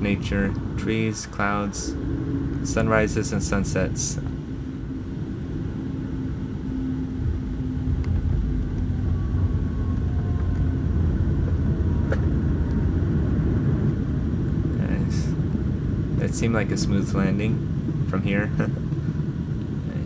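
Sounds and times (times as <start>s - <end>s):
airliner landing rumble from cabin: 0.0s - 20.0s.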